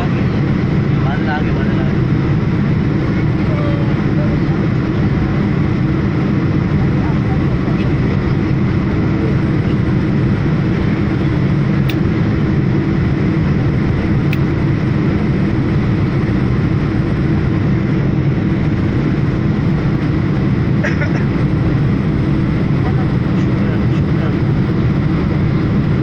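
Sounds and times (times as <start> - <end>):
jet engine and airflow noise: 0.0 - 26.0.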